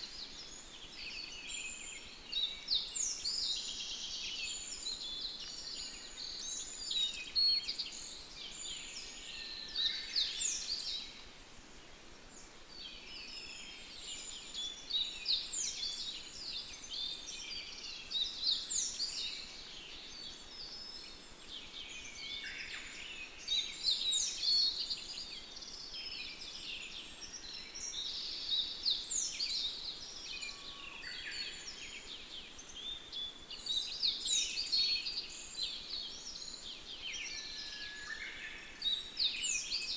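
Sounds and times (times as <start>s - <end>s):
faint steady hiss: 0.0s - 39.9s
songbirds chirping and trilling: 0.0s - 39.9s.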